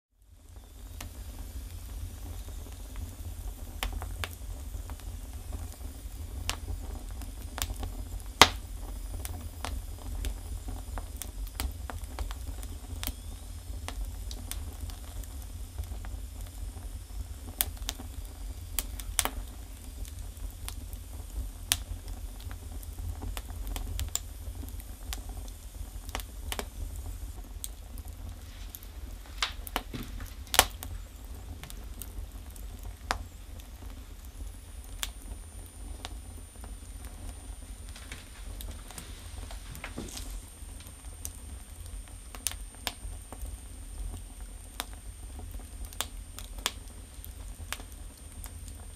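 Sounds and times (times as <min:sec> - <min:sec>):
firewood crackling and popping: 0:00.1 - 0:48.9
stove fire low rumble: 0:00.1 - 0:48.9.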